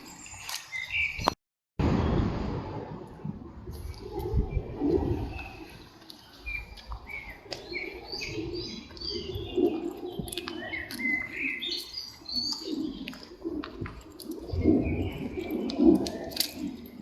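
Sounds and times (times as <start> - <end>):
songbirds chirping: 0.0 - 1.4, 3.8 - 17.0.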